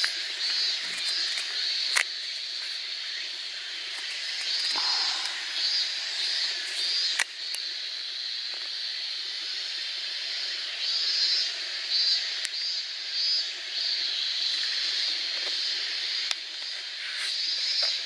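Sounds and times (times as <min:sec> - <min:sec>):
insects buzzing and shrilling: 0:00.0 - 0:18.0.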